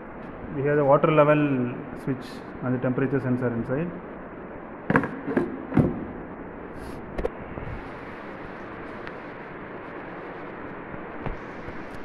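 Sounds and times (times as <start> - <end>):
chiller running: 0.0 - 12.0.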